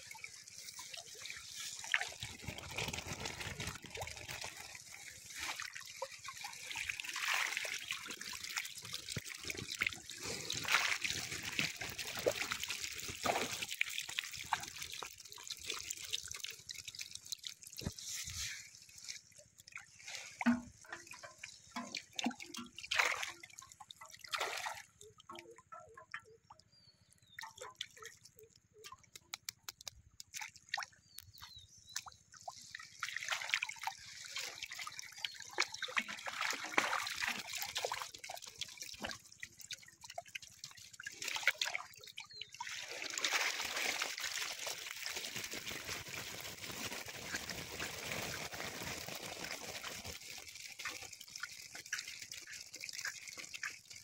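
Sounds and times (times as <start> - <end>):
pond water splashing and dripping: 0.0 - 54.0.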